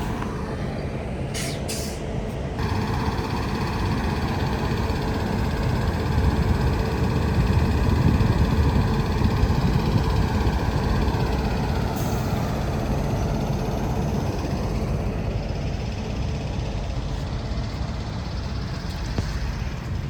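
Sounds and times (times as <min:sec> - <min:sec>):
faint locomotive hum: 0:00.0 - 0:20.0
train wheels rumbling on rails: 0:00.0 - 0:20.0.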